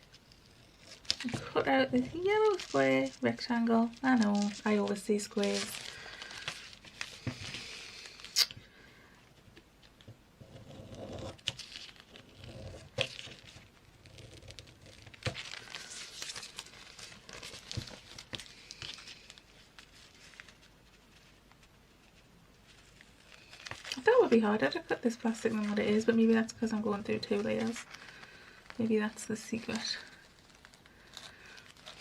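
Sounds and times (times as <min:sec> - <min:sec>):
plastic bag crinkling: 0:00.0 - 0:08.6, 0:11.3 - 0:32.0.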